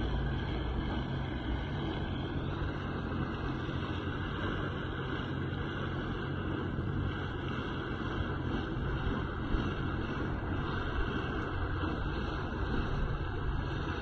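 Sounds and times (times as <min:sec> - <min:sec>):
jet churning water: 0:00.0 - 0:14.0
jet ski engine running: 0:00.0 - 0:14.0.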